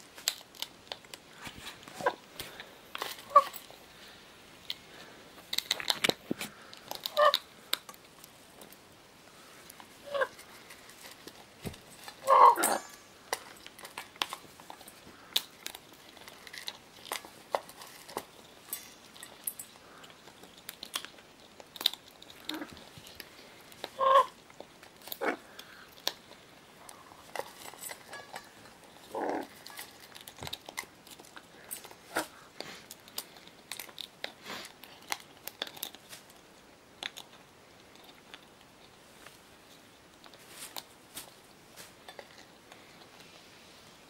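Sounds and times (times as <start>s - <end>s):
beaks crunching food: 0.0s - 43.4s.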